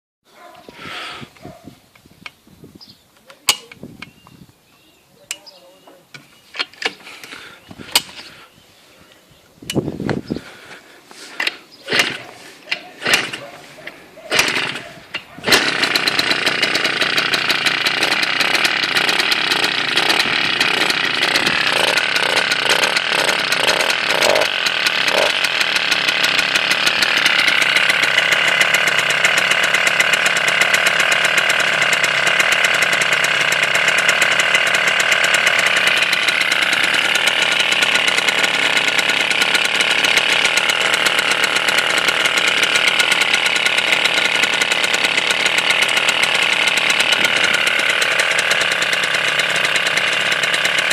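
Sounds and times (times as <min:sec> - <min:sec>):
scooter engine starting and running: 0:06.6 - 0:08.5, 0:09.7 - 0:50.9.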